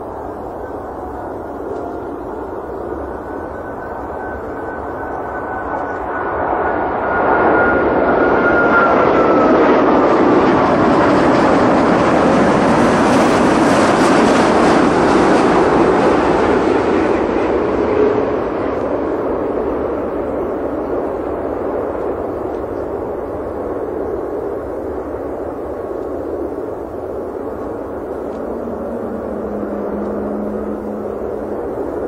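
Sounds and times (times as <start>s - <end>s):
high jet engine whine: 0.0s - 32.0s
jet aircraft rushing noise: 0.0s - 32.0s.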